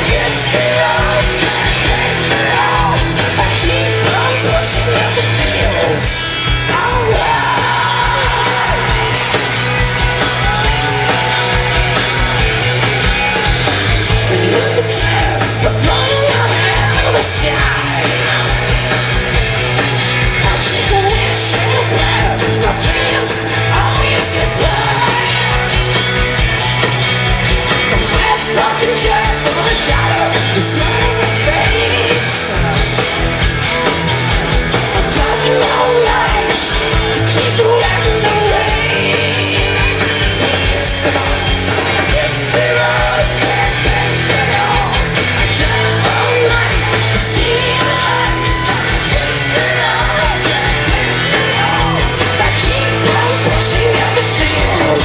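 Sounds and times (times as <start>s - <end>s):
live hard rock band: 0.0s - 55.0s.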